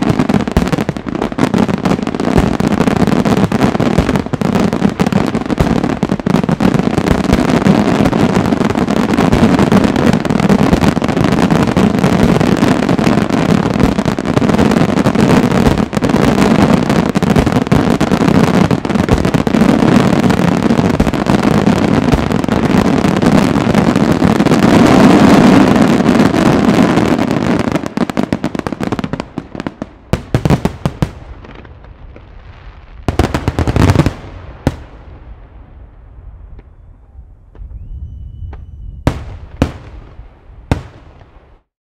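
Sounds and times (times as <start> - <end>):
fireworks bursting: 0.0 - 41.7.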